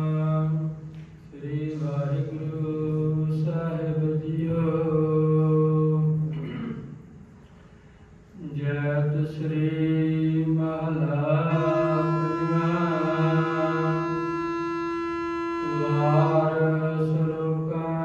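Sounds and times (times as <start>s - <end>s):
man chanting melodic recitation: 0.0s - 6.6s, 8.4s - 18.0s.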